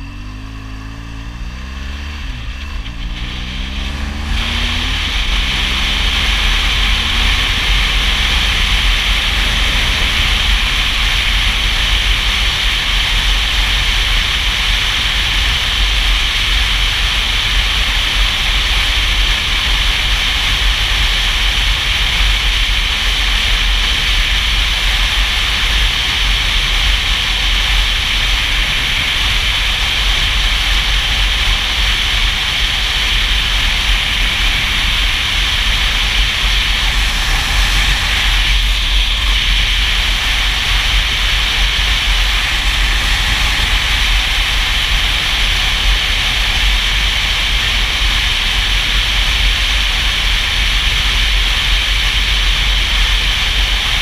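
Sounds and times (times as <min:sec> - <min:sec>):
low buffeting rumble: 0:00.0 - 0:54.0
wind rushing over microphone: 0:01.8 - 0:54.0.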